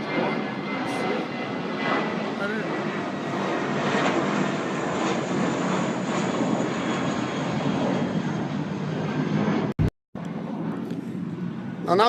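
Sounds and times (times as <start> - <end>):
jet airplane passing over: 0.0 - 12.0.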